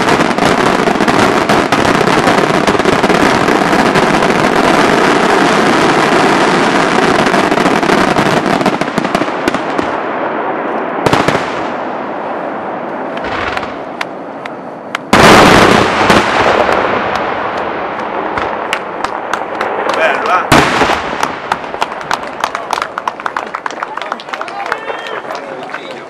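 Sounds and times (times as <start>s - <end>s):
fireworks bang: 0.0s - 14.2s, 14.9s - 22.5s
fireworks crackling: 0.0s - 26.0s.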